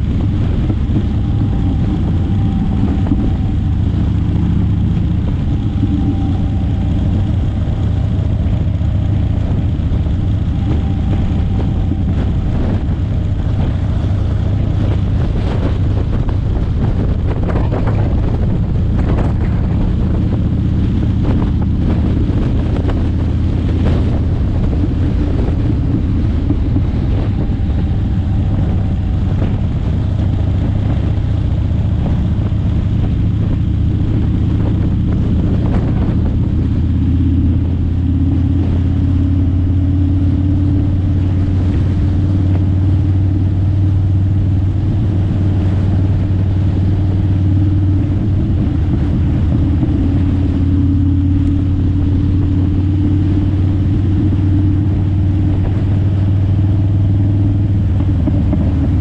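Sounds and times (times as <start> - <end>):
tyre and road noise: 0.0 - 59.0
vehicle engine humming: 0.0 - 59.0.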